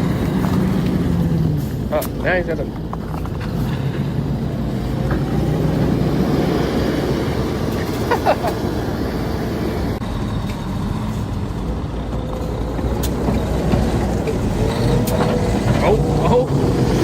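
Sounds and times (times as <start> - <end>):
heavy truck engine under load: 0.0 - 17.0.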